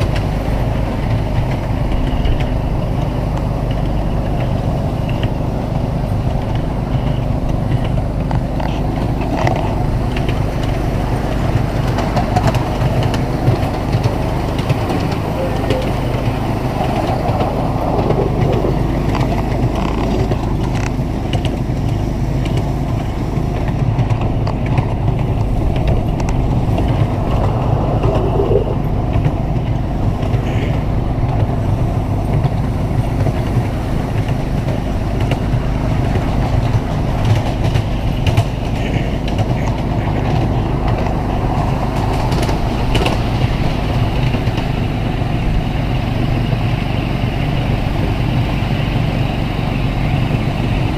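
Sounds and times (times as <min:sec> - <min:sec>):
miniature train running on track: 0:00.0 - 0:50.9.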